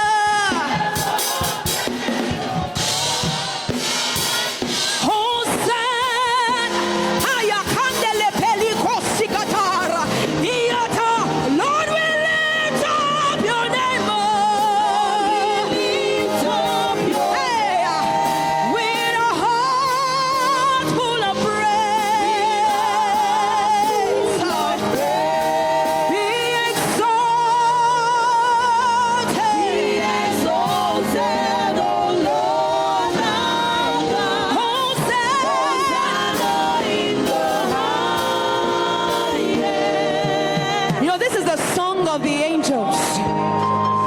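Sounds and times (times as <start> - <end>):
gospel singing with vibrato: 0.0 - 44.0
steady musical accompaniment: 0.0 - 44.0.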